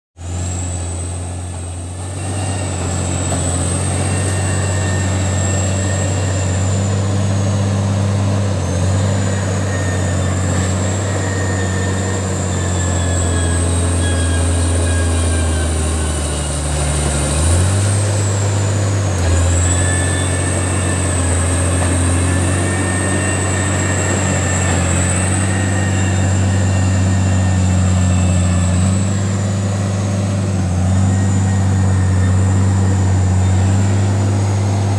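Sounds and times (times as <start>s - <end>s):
bulldozer diesel engine droning: 0.2s - 34.9s
thin high whine: 0.2s - 34.9s.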